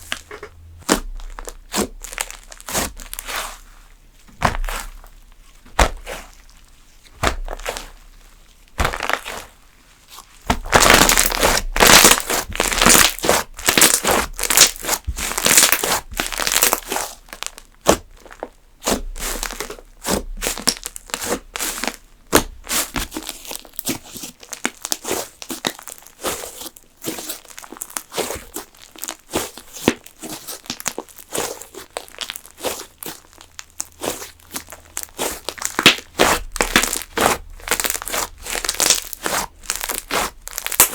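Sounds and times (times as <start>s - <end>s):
slime squished and pulled by hand: 0.0s - 40.9s.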